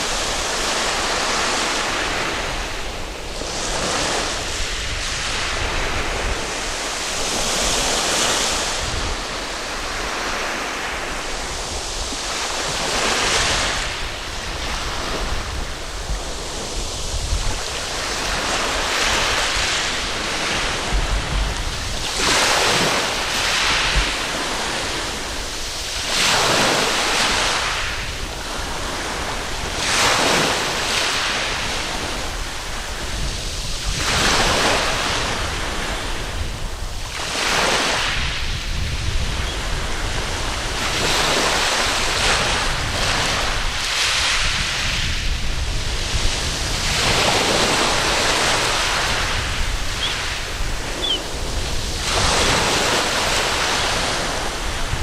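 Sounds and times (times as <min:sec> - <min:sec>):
waves breaking on beach: 0:00.0 - 0:55.0
wind buffeting microphone: 0:00.0 - 0:55.0.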